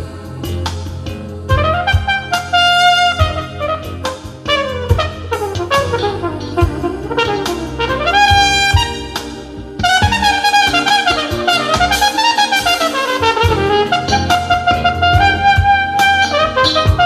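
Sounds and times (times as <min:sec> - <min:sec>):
bass line: 0:00.0 - 0:17.0
brass horn long notes: 0:01.5 - 0:17.0.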